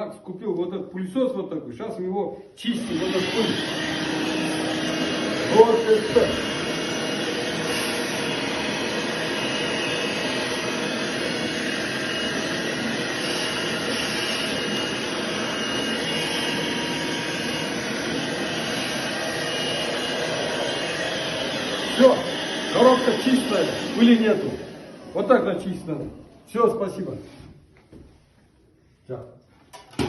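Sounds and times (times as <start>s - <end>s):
vacuum cleaner running: 2.6s - 28.0s.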